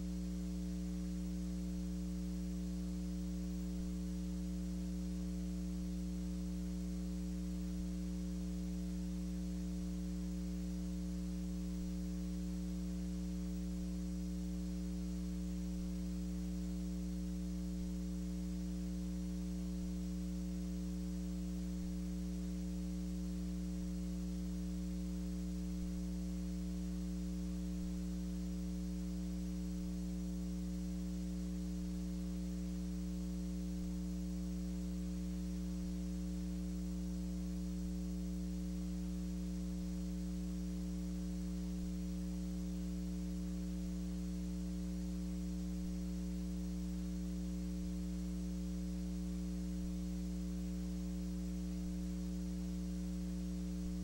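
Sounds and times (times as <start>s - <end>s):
electrical mains hum: 0.0s - 54.0s
faint hiss: 0.0s - 54.0s.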